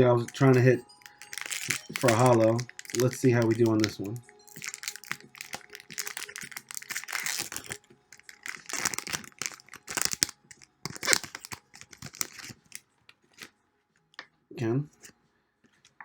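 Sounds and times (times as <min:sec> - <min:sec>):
foil wrapper tearing and crinkling: 0:00.2 - 0:13.5.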